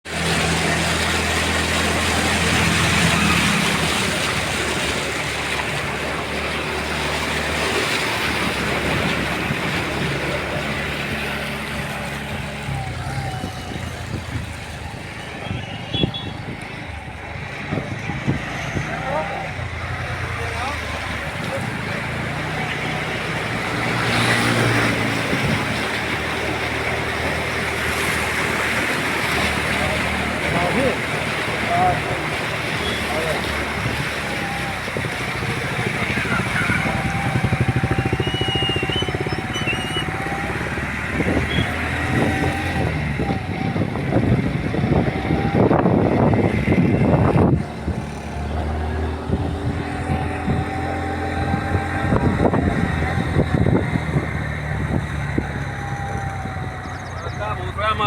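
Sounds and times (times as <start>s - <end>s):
vehicle engine passing: 0.0s - 58.0s.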